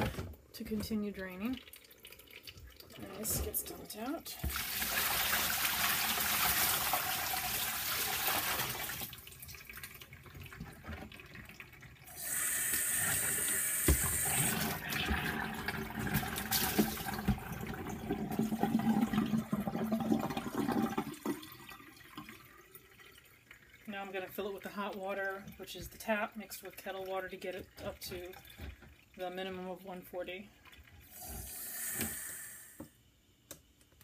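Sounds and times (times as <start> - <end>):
water running down a drain: 1.0 - 32.8
water poured into a sink: 1.2 - 29.6.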